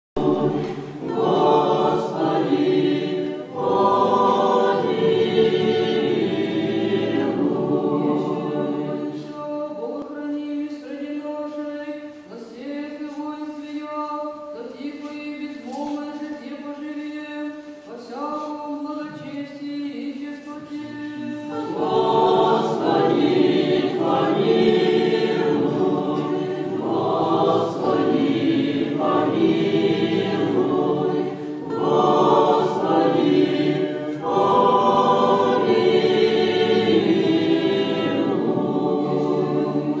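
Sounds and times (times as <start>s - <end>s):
choir singing: 0.2s - 13.2s, 18.8s - 40.0s.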